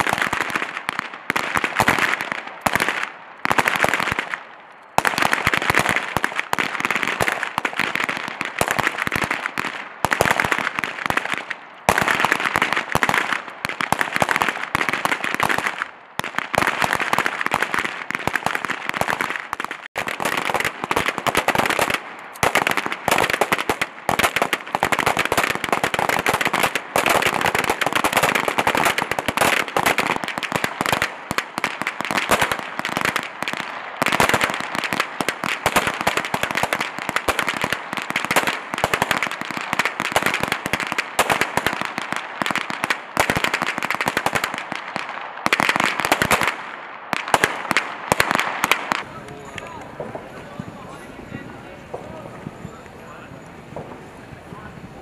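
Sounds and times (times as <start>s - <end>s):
many pistols firing: 0.0s - 51.0s.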